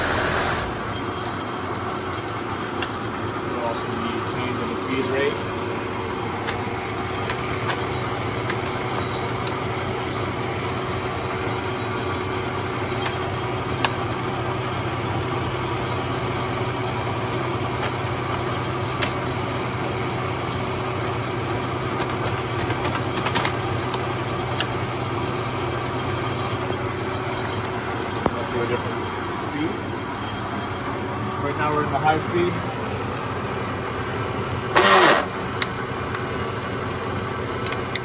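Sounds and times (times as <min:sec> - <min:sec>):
milling machine humming: 0:00.0 - 0:38.0
constant tone: 0:00.4 - 0:38.0.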